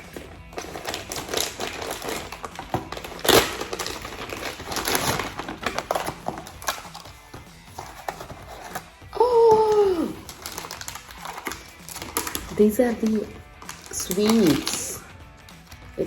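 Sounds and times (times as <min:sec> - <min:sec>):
packaging crinkling: 0:00.0 - 0:08.9, 0:09.7 - 0:15.8.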